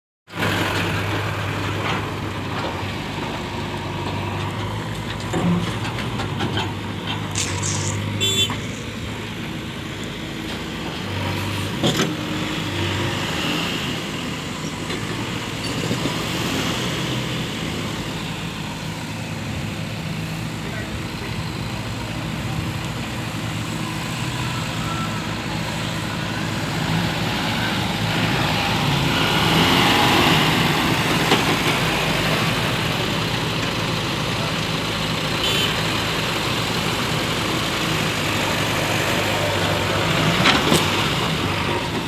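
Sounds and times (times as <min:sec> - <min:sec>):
heavy diesel engines running: 0:00.3 - 0:42.0.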